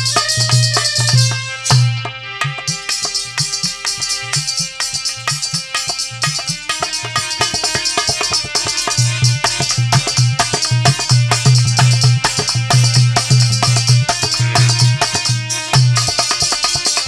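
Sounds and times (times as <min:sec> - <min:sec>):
dholak drum beat: 0:00.0 - 0:17.0
harmonium melody: 0:00.0 - 0:17.0
rattling hand percussion: 0:00.0 - 0:17.0.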